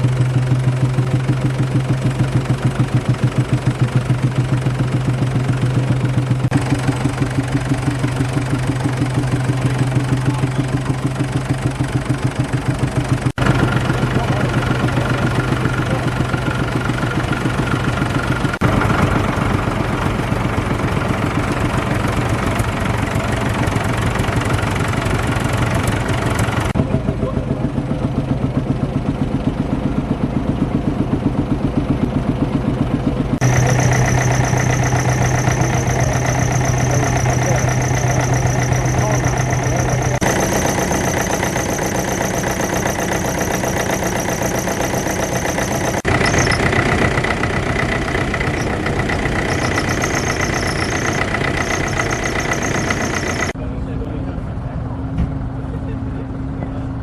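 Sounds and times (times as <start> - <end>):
tractor engines idling: 0.0 - 57.0.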